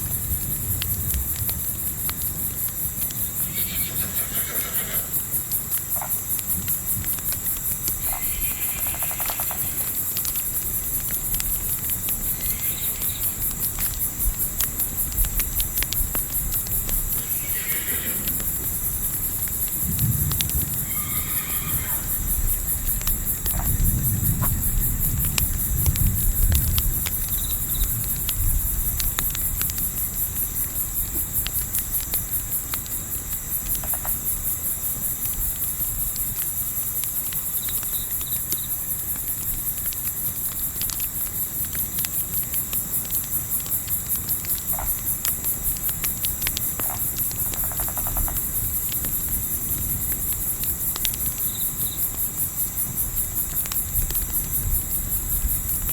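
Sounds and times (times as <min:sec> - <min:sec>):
campfire crackling and popping: 0:00.0 - 0:55.9
crickets chirping: 0:00.0 - 0:55.9.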